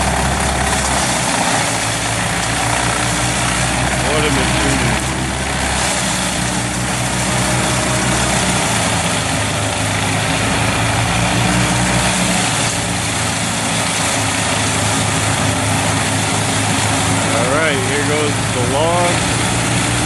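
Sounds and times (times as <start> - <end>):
branches being shredded: 0.0 - 20.0
wood chipper engine drone: 0.0 - 20.0.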